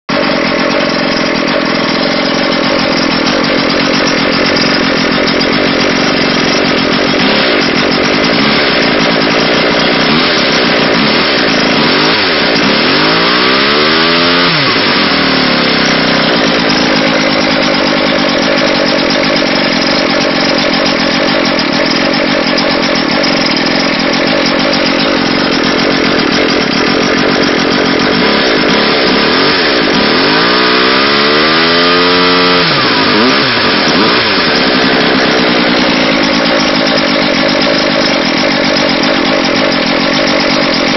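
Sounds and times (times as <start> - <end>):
chainsaw running: 0.1 - 40.9.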